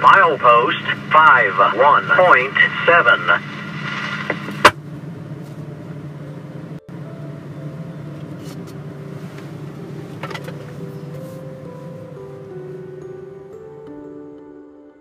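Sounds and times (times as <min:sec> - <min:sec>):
vehicle engine rumbling: 0:00.0 - 0:13.4.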